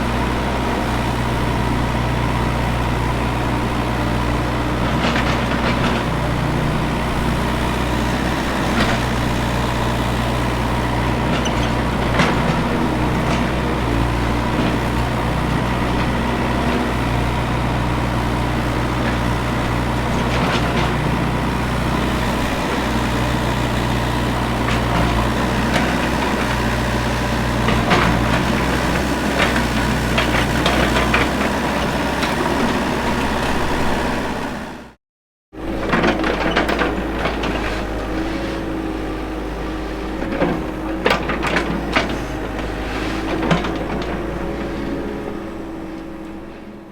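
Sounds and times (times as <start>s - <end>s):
excavator diesel engine droning: 0.0s - 35.0s, 35.6s - 46.9s.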